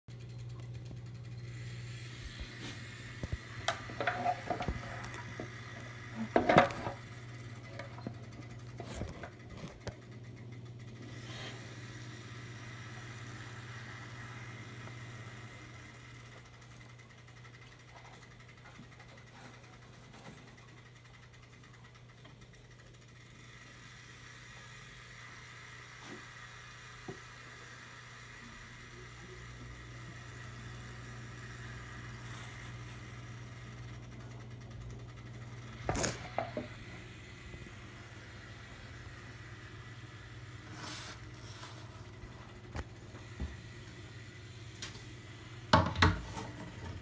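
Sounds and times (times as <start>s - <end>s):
low electrical hum: 0.1s - 47.0s.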